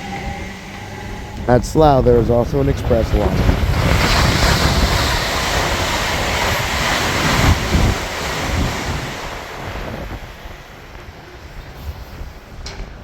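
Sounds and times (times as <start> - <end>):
train passing at speed: 0.0 - 13.0
wind buffeting microphone: 0.0 - 13.0.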